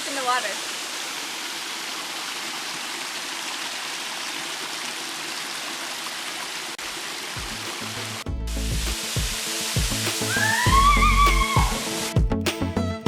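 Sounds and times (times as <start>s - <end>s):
waterfall rushing into pool: 0.0s - 12.2s.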